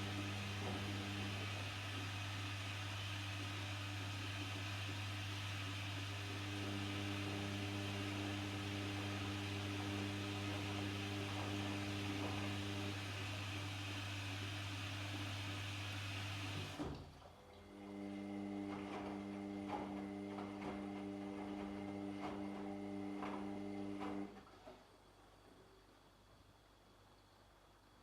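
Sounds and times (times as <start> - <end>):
washing machine motor tone: 0.0 - 24.8
washing machine hum: 0.0 - 28.0.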